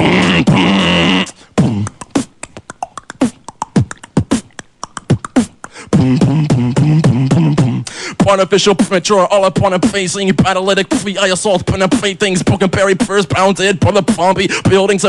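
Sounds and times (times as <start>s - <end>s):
beatboxing: 0.0s - 15.0s.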